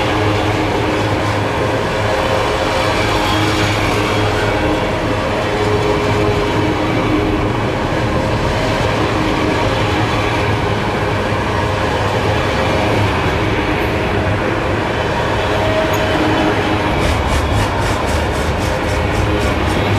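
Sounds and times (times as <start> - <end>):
freight train wheels rumbling: 0.0 - 19.9
train clickety-clack: 0.0 - 19.9.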